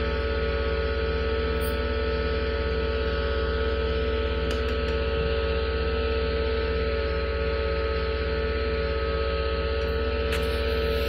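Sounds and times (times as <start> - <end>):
incubator electric hum: 0.0 - 11.0.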